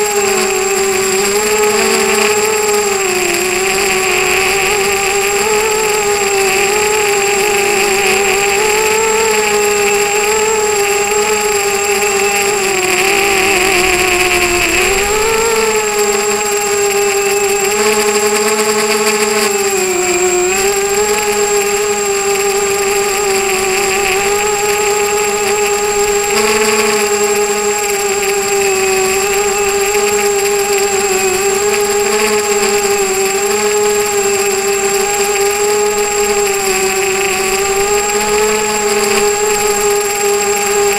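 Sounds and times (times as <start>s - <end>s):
drone motors whining: 0.0s - 40.9s
high-pitched electronic whine: 0.0s - 40.9s.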